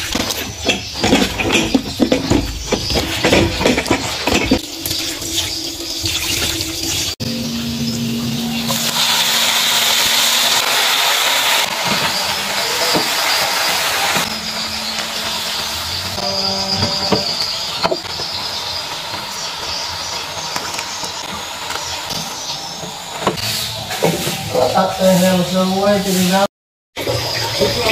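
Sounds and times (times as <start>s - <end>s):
vegetables sizzling in a wok: 0.0s - 27.9s.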